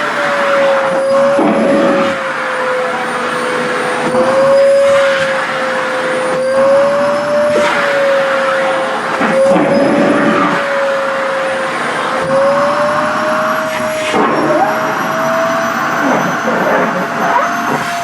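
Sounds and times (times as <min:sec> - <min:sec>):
vacuum cleaner whine: 0:00.0 - 0:18.0.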